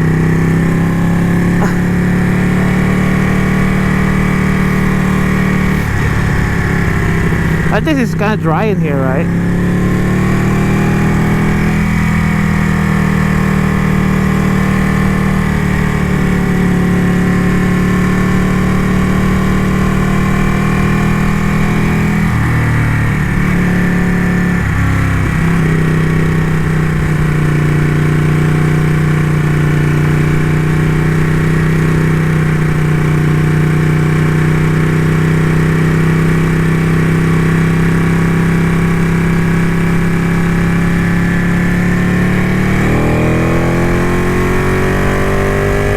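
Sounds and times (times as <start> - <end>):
motorcycle engine running: 0.0 - 7.8, 9.2 - 45.9.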